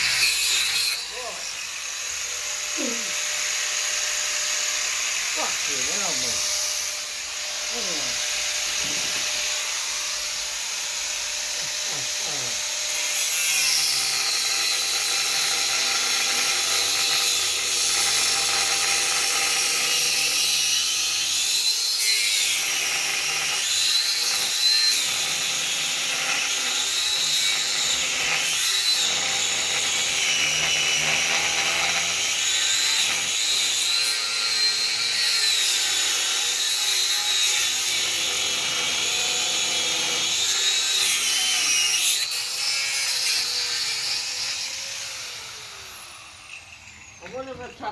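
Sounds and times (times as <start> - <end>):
angle grinder cutting steel: 0.0 - 47.9.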